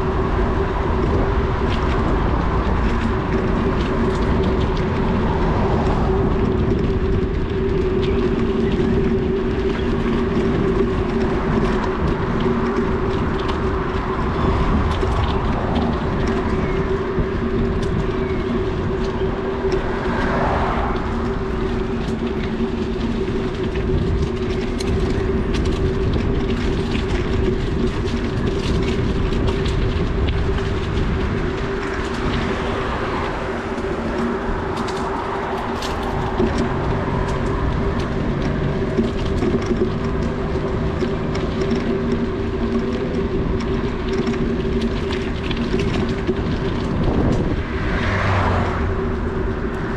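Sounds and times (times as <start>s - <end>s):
tyres humming on road: 0.0s - 49.9s
wind rumbling on microphone: 0.0s - 49.9s.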